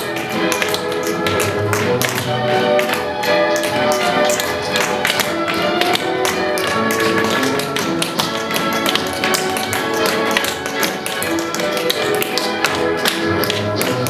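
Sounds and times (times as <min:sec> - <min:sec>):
holiday music: 0:00.0 - 0:14.0
tap shoes clicking on wood: 0:00.0 - 0:14.0.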